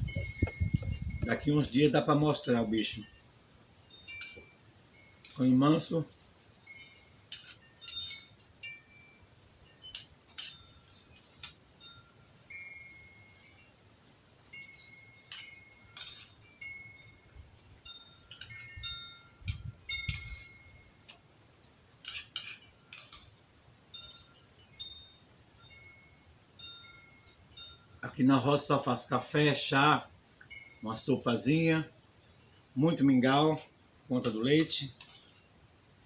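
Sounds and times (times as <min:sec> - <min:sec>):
wind chime ringing: 0:00.0 - 0:35.1.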